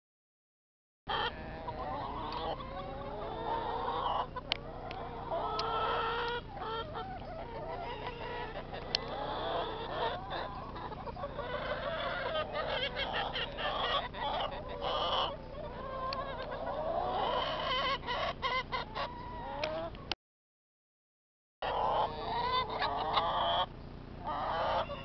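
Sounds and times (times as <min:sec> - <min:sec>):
hens clucking: 0:01.1 - 0:20.2, 0:21.6 - 0:25.0.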